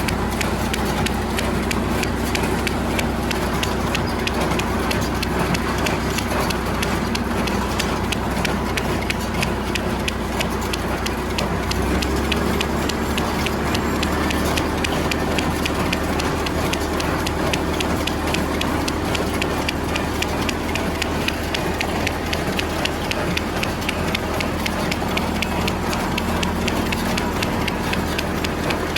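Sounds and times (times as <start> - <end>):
baler clicking: 0.0 - 28.9
tractor engine drone: 0.0 - 28.9.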